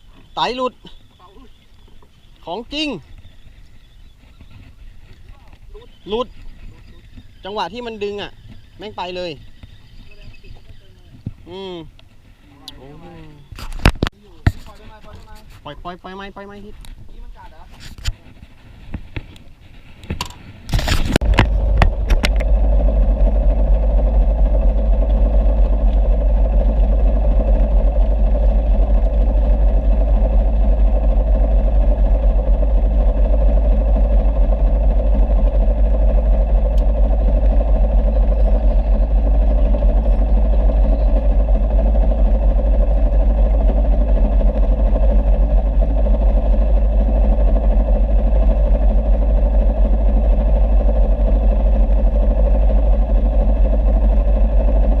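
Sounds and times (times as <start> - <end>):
boat engine starting and running: 0.0 - 55.0.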